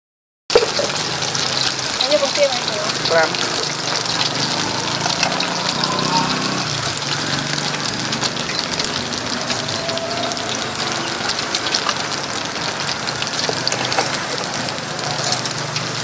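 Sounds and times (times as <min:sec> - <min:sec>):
hot oil sizzling and crackling: 0:00.5 - 0:16.0.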